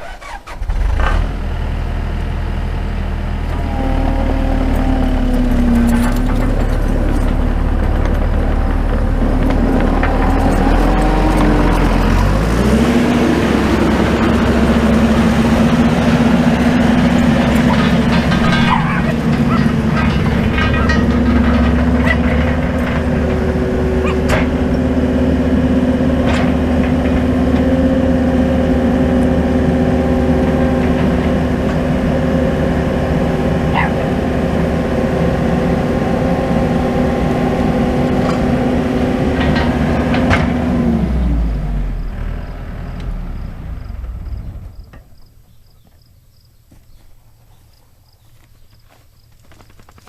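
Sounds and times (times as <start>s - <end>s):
engine running: 0.0s - 45.5s.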